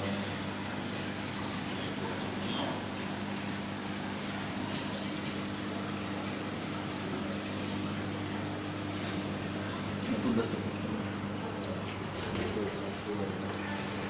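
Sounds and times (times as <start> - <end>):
aquarium pumps humming: 0.0 - 14.0.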